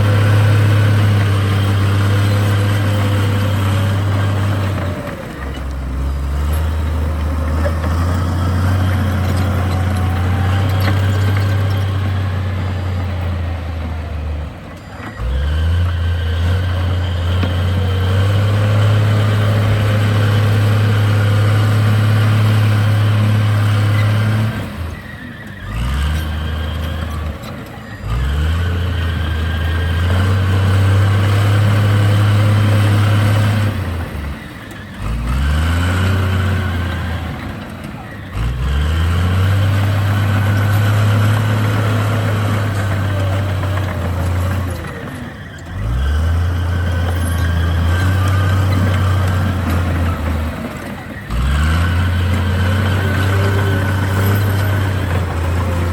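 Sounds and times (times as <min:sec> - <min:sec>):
heavy diesel engine working: 0:00.0 - 0:55.9.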